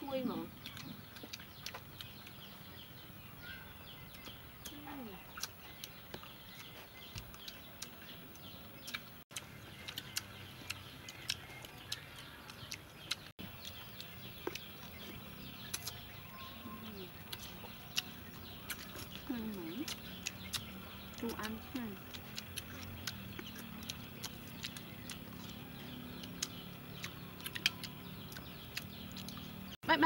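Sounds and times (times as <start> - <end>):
birds chirping: 0.0 - 30.0
chickens calling: 0.1 - 30.0.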